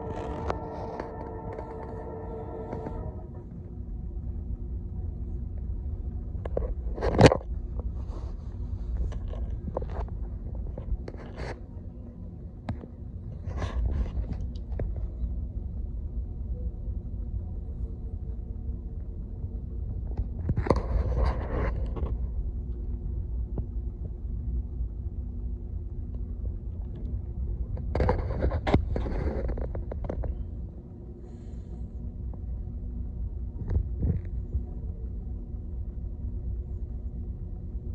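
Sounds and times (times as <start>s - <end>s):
boat engine rumble: 0.0s - 37.9s.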